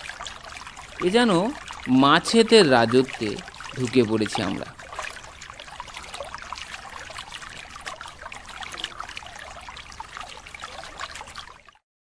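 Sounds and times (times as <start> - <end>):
water splashing around fish net: 0.0 - 11.8.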